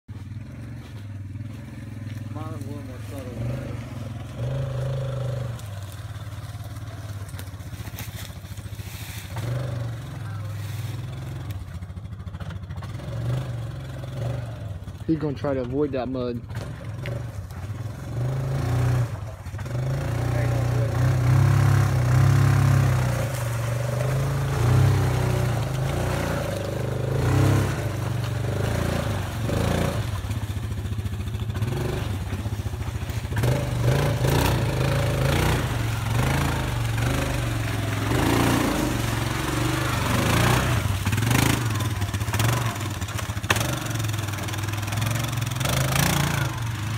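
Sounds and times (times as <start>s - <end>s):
engine revving under load: 0.1s - 46.9s.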